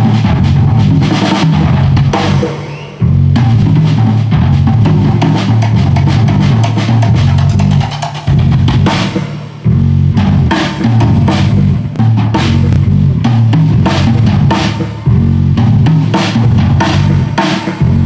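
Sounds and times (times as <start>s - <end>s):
drum kit: 0.0s - 18.0s.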